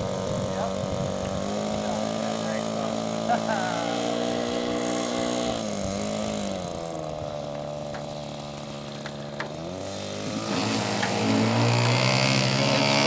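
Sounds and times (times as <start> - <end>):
model airplane engine running: 0.0 - 13.0.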